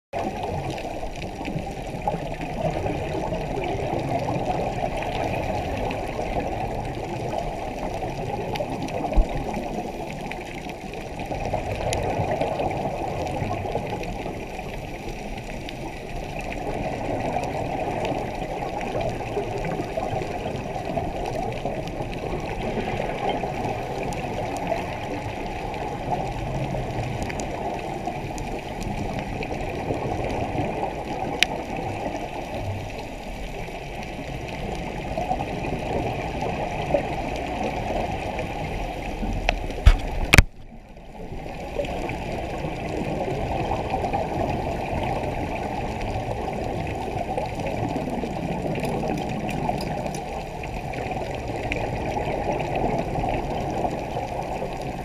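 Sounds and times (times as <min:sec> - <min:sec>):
muffled underwater water noise: 0:00.1 - 0:55.0.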